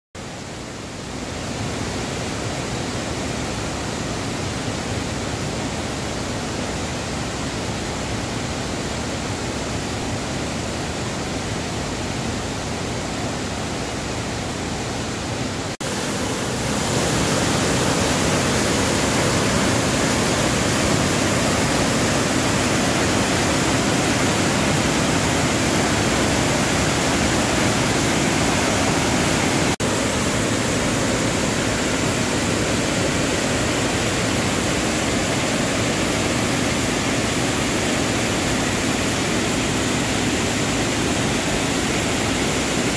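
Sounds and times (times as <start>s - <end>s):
waterfall rushing: 0.4s - 42.9s.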